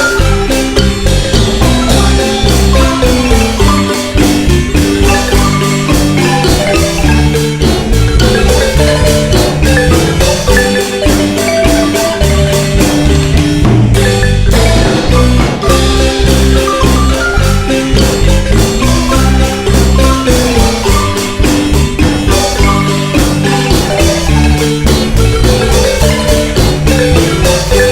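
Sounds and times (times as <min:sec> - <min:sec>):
bass line: 0:00.0 - 0:27.9
marimba music: 0:00.0 - 0:27.9
percussion beat: 0:00.0 - 0:27.9.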